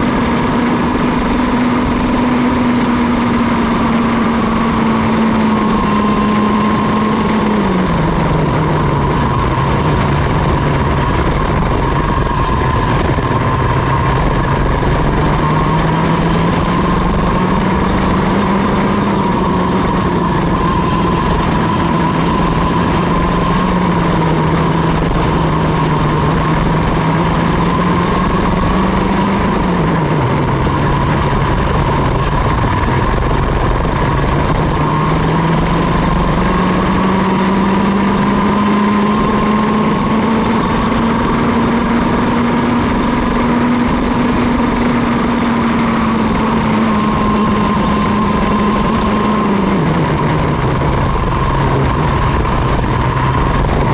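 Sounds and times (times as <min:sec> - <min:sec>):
two-stroke kart engine: 0:00.0 - 0:53.9
wind noise on microphone: 0:00.0 - 0:53.9.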